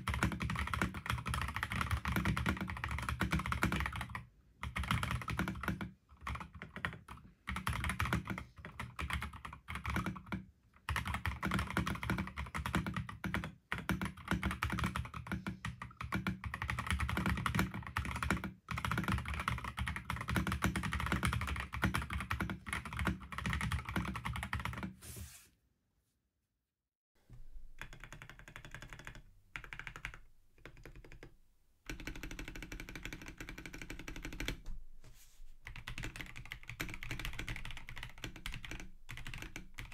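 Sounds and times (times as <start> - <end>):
mechanical keyboard typing: 0.0 - 24.9, 27.8 - 31.3, 31.9 - 34.6, 35.6 - 39.9.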